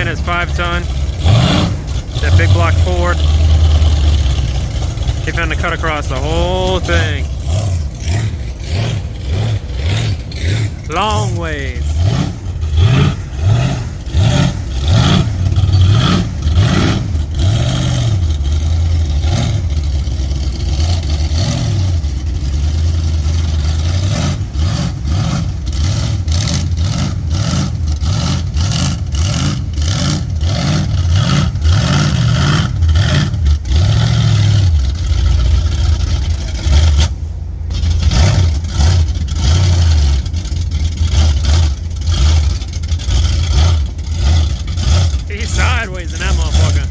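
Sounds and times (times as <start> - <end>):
truck engine revving: 0.0 - 46.9.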